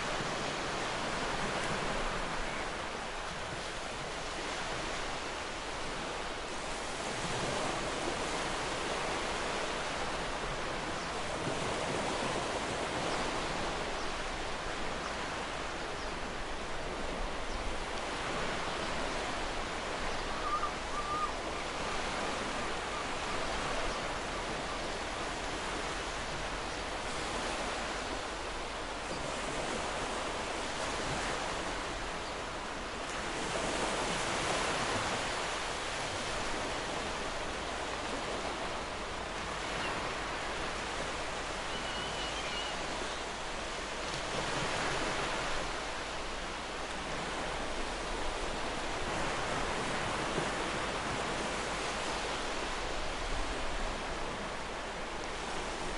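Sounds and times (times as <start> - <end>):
ocean surf washing onto beach: 0.0 - 55.9.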